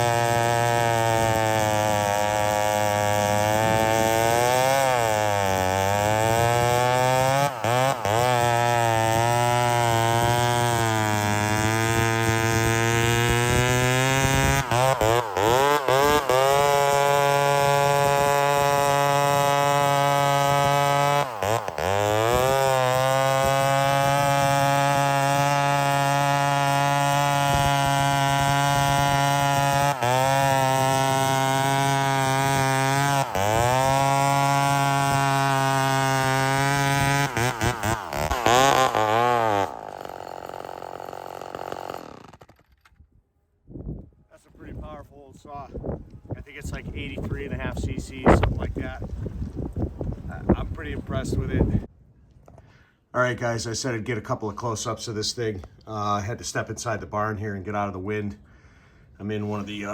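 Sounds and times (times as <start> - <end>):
chainsaw cutting at full revs: 0.0 - 42.8, 46.5 - 51.9.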